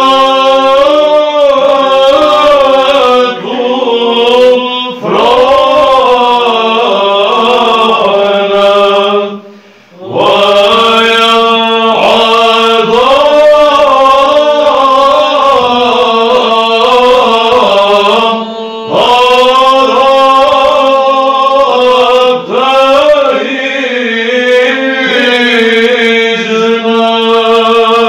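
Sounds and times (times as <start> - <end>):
male monks chanting: 0.0 - 28.0.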